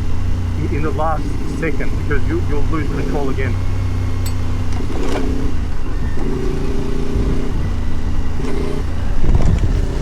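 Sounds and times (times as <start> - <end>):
motorbike engine cruising: 0.0 - 10.0.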